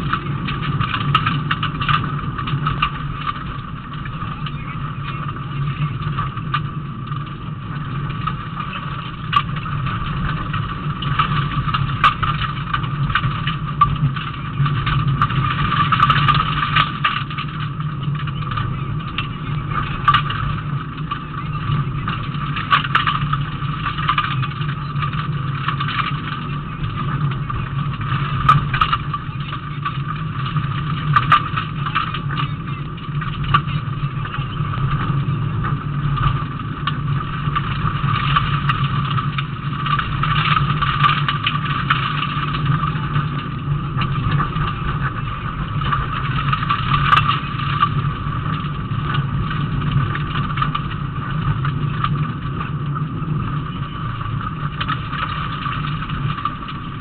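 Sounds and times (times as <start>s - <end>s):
car engine running steadily: 0.0s - 57.0s.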